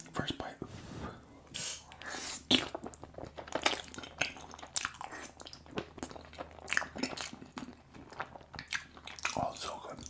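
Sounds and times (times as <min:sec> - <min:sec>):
close chewing with wet smacks: 0:01.9 - 0:10.0.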